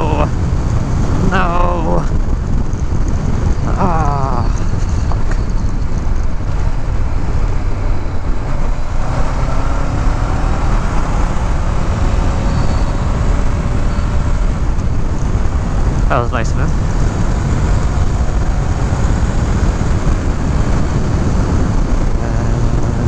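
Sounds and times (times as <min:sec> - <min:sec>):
motorcycle engine running: 0:00.0 - 0:23.0
wind and road noise: 0:00.0 - 0:23.0.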